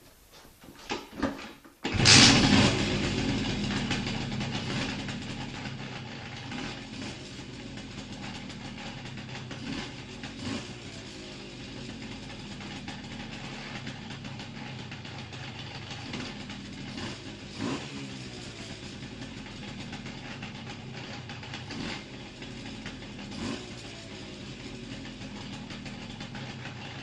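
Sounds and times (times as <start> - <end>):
moped engine idling and revving: 1.8 - 27.0.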